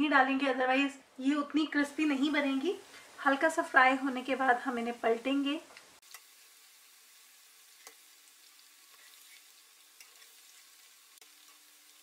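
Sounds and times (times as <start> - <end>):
dough sizzling in oil: 1.8 - 12.0.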